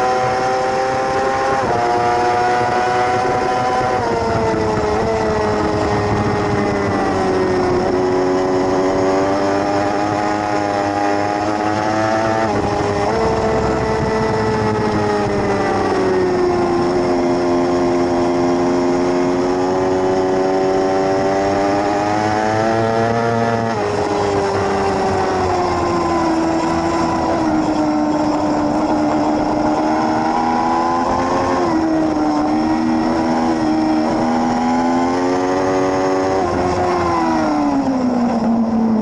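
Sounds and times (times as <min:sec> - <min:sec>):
racing motorcycle engine: 0:00.0 - 0:39.0.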